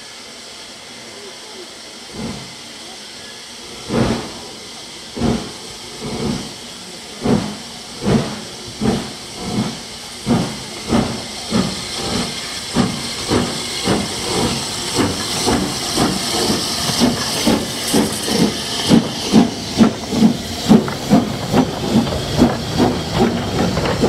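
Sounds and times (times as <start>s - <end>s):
steady hiss of steam: 0.0s - 24.0s
steam locomotive exhaust beats: 0.0s - 24.0s.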